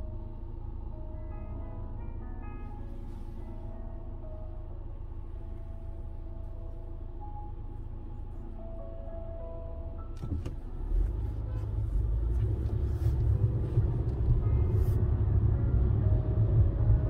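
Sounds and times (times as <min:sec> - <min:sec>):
car rumble inside cabin: 0:00.0 - 0:17.0.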